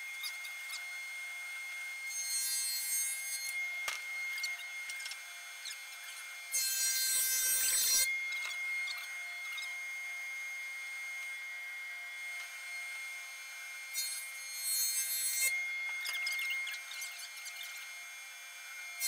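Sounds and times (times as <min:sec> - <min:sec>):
planer cutting wood: 0:00.0 - 0:19.0
thickness planer whining: 0:00.0 - 0:19.0.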